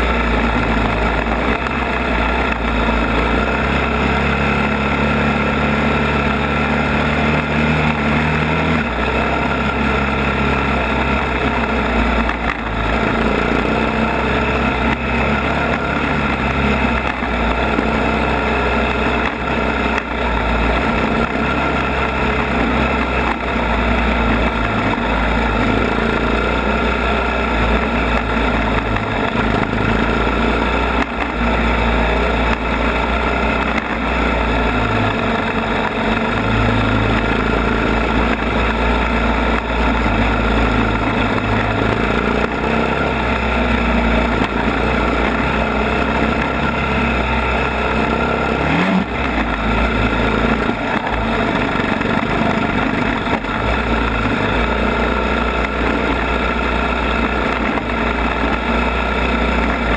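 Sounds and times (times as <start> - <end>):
constant rushing noise: 0.0 - 59.9
quad engine revving: 0.0 - 59.9.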